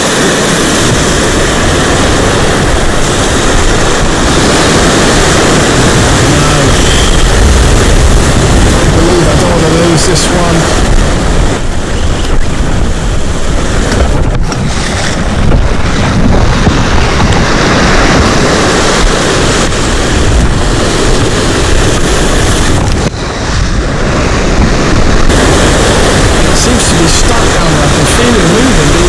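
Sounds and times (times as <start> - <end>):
surf on rocky shore: 0.0 - 29.0
wind buffeting microphone: 0.0 - 29.0.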